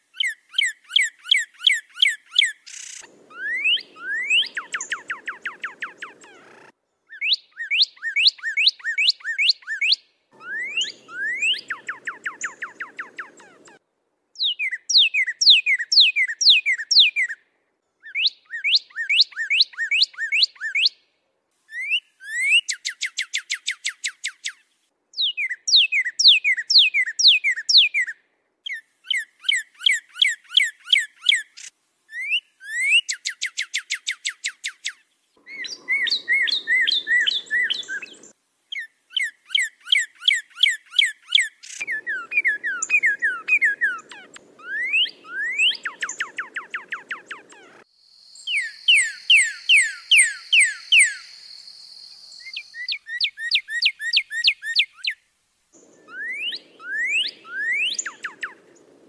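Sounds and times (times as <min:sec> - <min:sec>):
songbird whistled song: 0:00.1 - 0:13.8, 0:14.4 - 0:17.4, 0:18.0 - 0:21.0, 0:21.7 - 0:55.2, 0:55.8 - 0:59.0.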